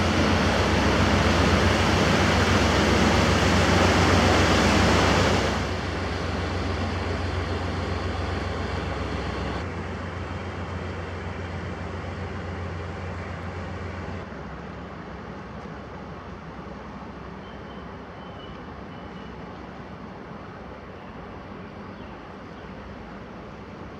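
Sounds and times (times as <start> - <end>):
boat diesel engine drone: 0.0 - 19.4.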